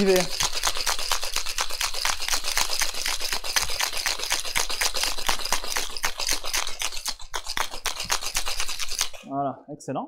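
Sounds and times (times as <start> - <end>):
ice rattling in cocktail shaker: 0.0 - 9.2.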